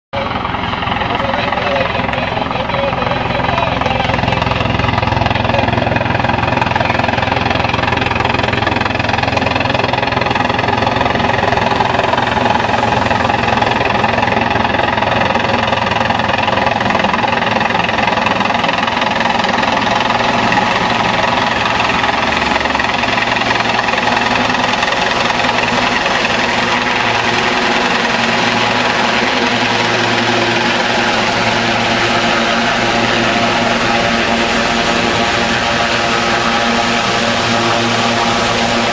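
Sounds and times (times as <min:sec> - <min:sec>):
turbine engine whine: 0:00.1 - 0:38.9
helicopter rotor chop: 0:00.2 - 0:38.9.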